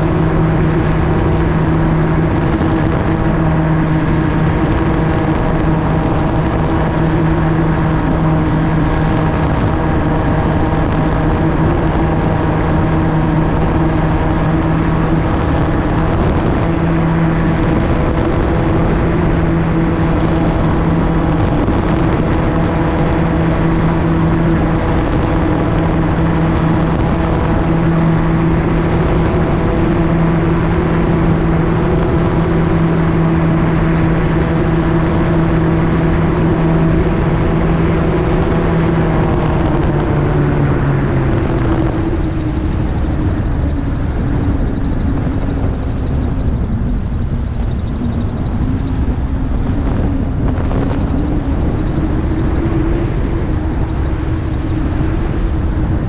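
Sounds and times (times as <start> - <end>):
aircraft engine and propeller droning: 0.0 - 56.0
wind rushing: 0.0 - 56.0.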